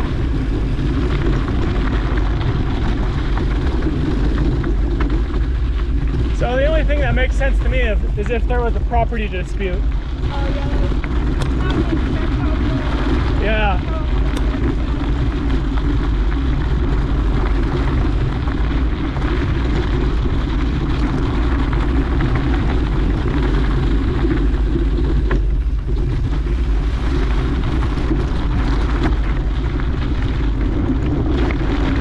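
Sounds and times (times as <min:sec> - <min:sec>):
bike rolling on dirt: 0:00.0 - 0:32.0
wind buffeting microphone: 0:00.0 - 0:32.0.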